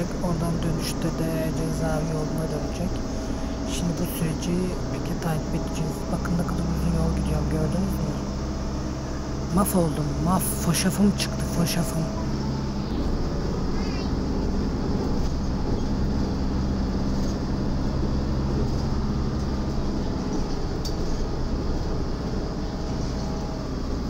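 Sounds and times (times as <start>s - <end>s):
bus engine hum: 0.0s - 24.0s
road noise: 0.0s - 24.0s.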